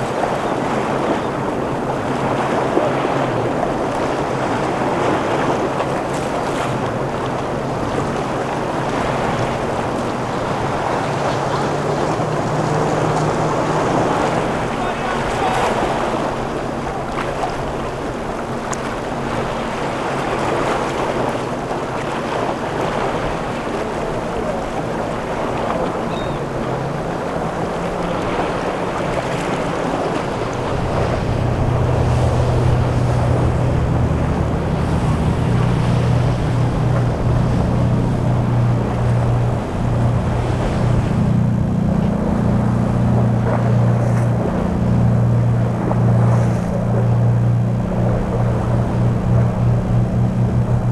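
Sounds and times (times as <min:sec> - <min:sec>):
boat engines running: 0:00.0 - 0:50.9
deep engine drone: 0:00.0 - 0:50.9
water noise: 0:00.0 - 0:50.9
wind on microphone: 0:00.0 - 0:50.9.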